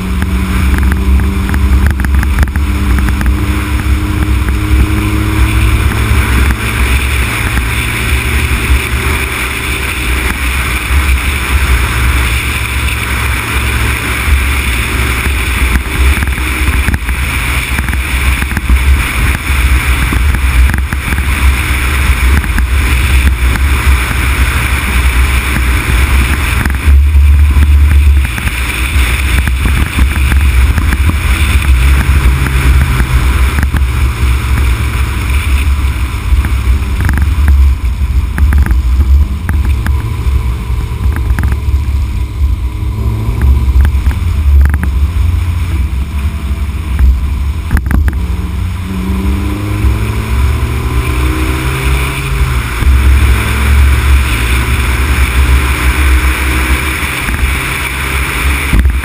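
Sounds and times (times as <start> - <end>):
faint car engine: 0.0 - 59.0
road noise: 0.0 - 59.0
wind buffeting microphone: 0.0 - 59.0.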